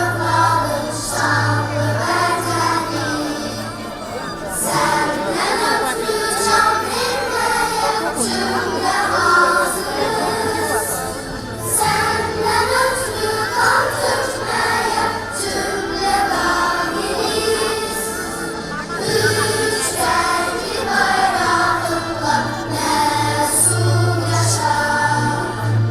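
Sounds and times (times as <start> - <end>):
choir singing: 0.0 - 25.9
music: 0.0 - 25.9.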